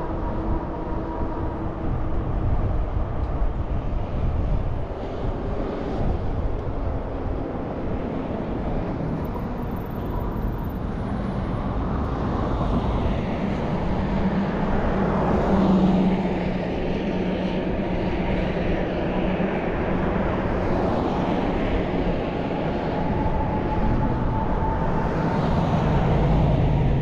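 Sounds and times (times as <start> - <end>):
bicycle road rumble: 0.0 - 27.0
passing vehicle engine hum: 0.0 - 27.0
wind on microphone: 0.0 - 27.0.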